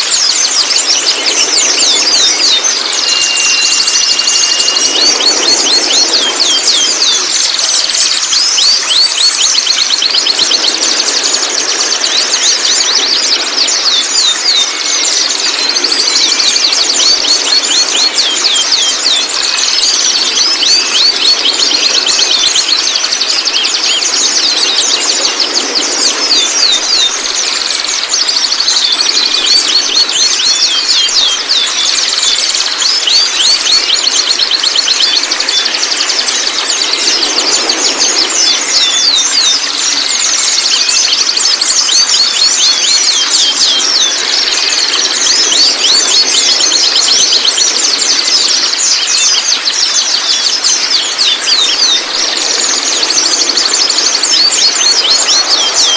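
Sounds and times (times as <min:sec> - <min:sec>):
birds chirping and whistling: 0:00.0 - 0:55.9.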